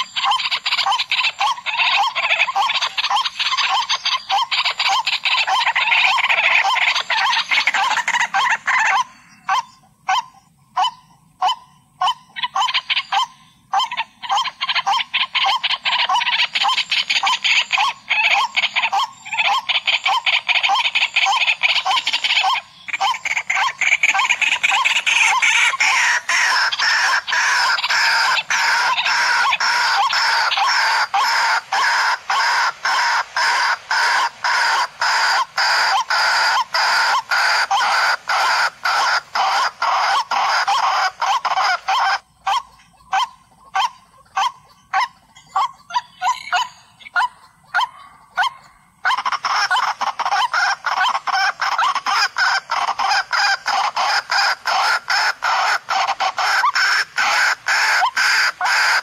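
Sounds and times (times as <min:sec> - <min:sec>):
waterhen calling: 0:00.0 - 0:59.0.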